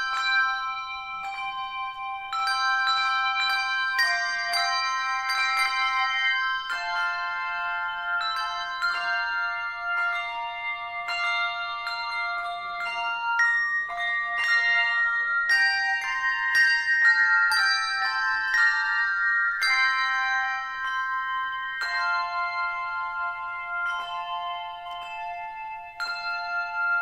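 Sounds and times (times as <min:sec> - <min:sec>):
handbell choir ringing chords: 0:00.0 - 0:27.0.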